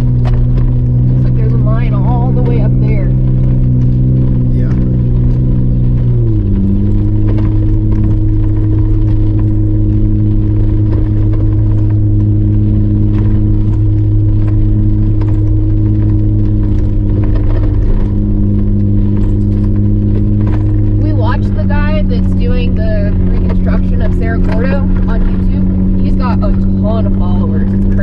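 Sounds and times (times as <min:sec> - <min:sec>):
engine running at low speed: 0:00.0 - 0:28.0
vehicle knocks and rattles: 0:00.0 - 0:28.0.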